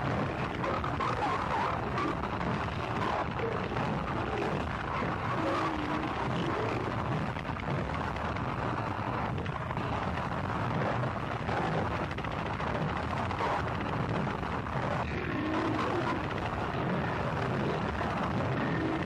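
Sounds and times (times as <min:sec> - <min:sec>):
wall of distorted noise: 0:00.0 - 0:19.0.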